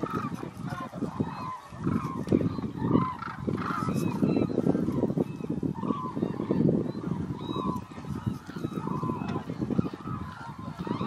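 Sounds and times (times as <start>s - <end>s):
flock of cranes calling: 0.0s - 11.0s.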